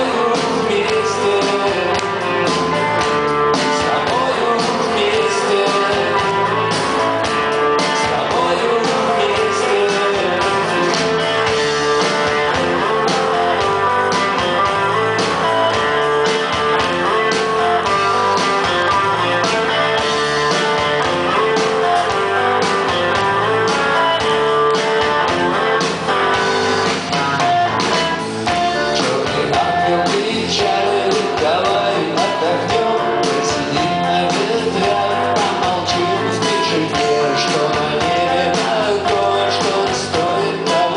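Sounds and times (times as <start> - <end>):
guitars: 0.0 - 40.9
live rock band playing: 0.0 - 40.9.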